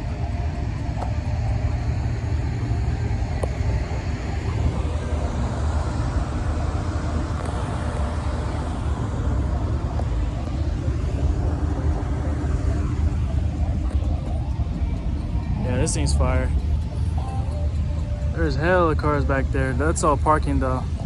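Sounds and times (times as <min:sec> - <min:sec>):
car engines rumbling: 0:00.0 - 0:21.0
traffic noise: 0:00.0 - 0:21.0.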